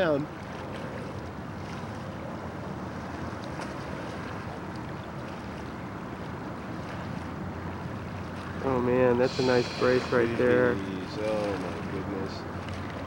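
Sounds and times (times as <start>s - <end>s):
water lapping: 0.0s - 13.0s.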